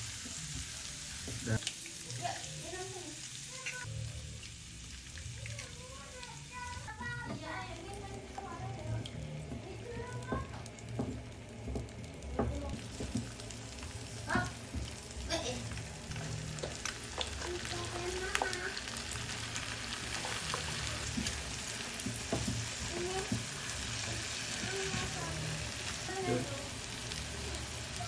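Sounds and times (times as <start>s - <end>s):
food sizzling in frying pan: 0.0s - 28.0s.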